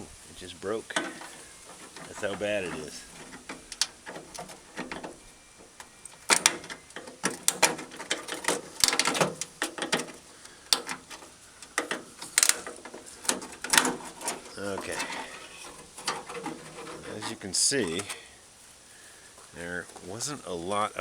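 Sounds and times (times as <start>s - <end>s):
metal pry tool scraping: 0.8s - 18.3s.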